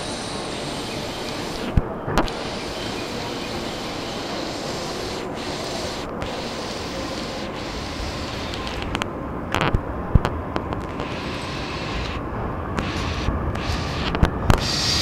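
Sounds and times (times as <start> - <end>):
train station platform din: 0.0 - 15.0.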